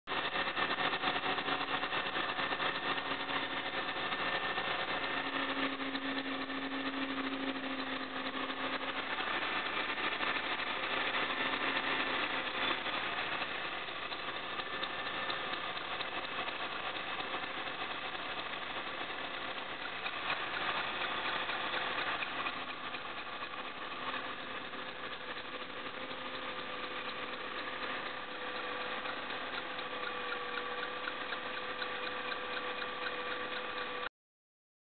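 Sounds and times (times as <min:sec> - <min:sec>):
car engine idling: 0:00.1 - 0:34.1.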